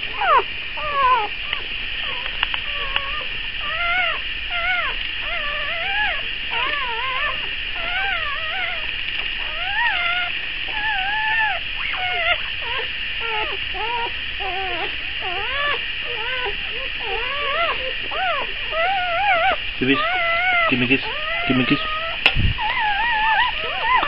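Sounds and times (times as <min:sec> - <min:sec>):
puppies squeaking and whimpering: 0:00.0 - 0:24.0.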